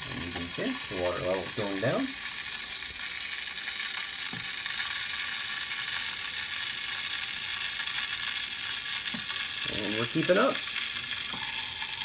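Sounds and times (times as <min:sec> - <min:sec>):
water rushing through pump: 0:00.0 - 0:12.0.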